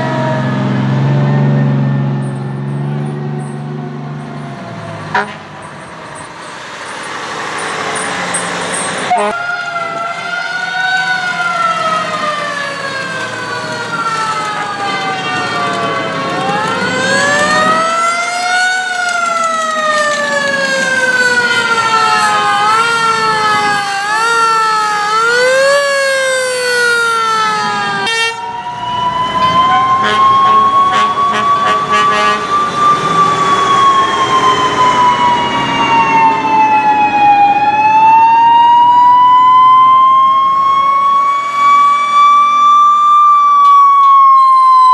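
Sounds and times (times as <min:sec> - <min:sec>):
fire truck sirens wailing: 0:00.0 - 0:44.9.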